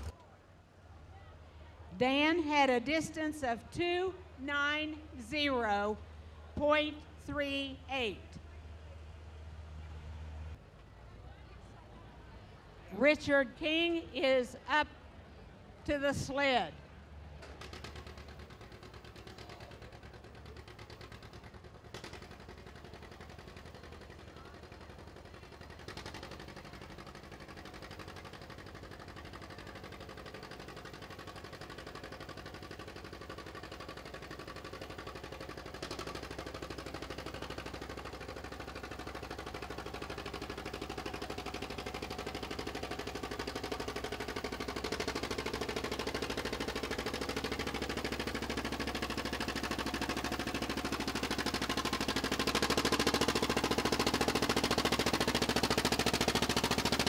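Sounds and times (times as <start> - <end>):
tractor engine under load: 0.0 - 8.8, 15.8 - 57.0.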